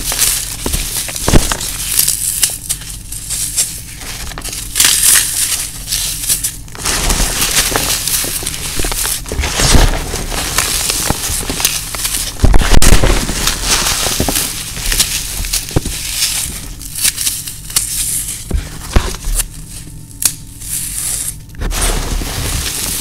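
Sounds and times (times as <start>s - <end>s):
floral foam crunching: 0.0s - 23.0s.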